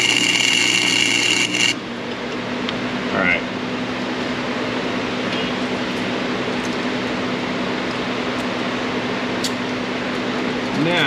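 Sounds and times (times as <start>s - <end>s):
constant hum: 0.0s - 11.0s
fan whirring: 0.0s - 11.0s.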